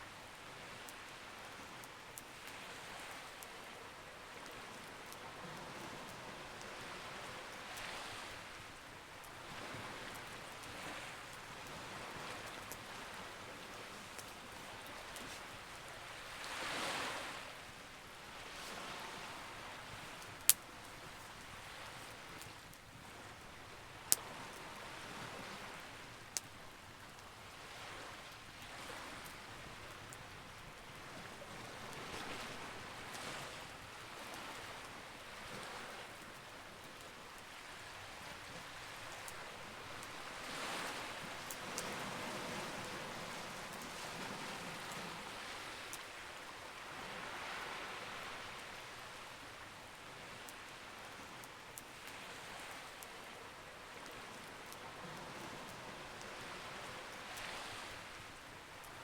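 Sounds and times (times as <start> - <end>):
campfire crackling: 0.1 - 59.0.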